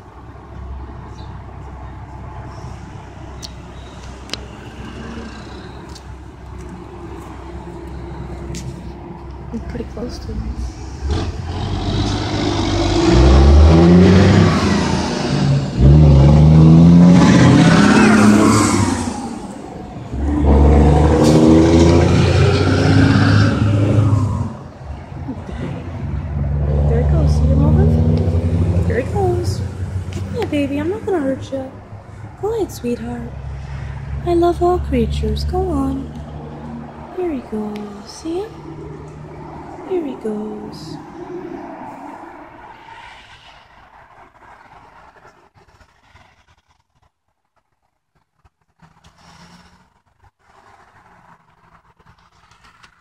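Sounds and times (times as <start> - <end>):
soft outdoor rushing noise: 0.0 - 53.0.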